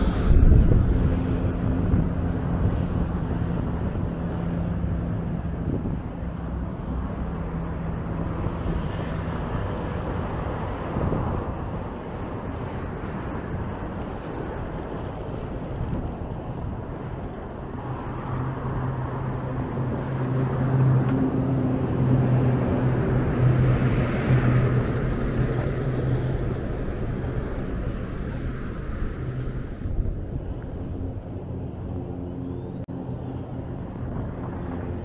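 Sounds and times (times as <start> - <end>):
motor vehicle passing by: 0.0 - 35.0.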